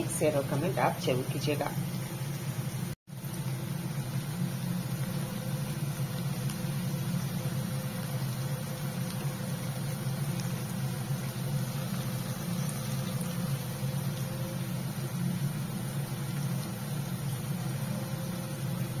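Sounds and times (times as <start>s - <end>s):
food frying in oil crackles: 0.0s - 19.0s
low mechanical hum: 0.0s - 19.0s.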